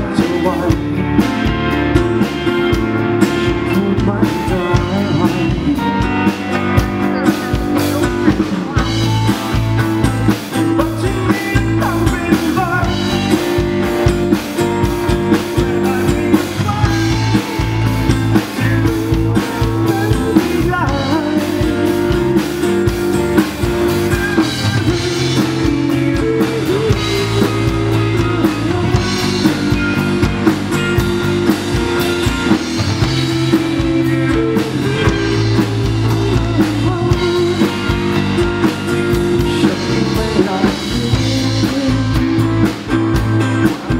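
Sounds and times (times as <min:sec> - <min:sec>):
man singing: 0:00.0 - 0:30.3, 0:31.1 - 0:43.9
drum kit: 0:00.0 - 0:43.9
strummed acoustic-electric guitar: 0:00.0 - 0:43.9.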